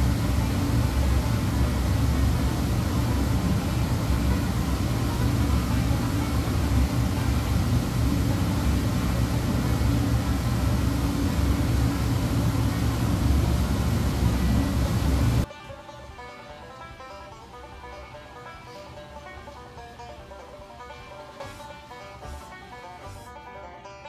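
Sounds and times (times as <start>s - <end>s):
dishwasher rumbling and hissing: 0.0s - 15.5s, 18.3s - 23.7s.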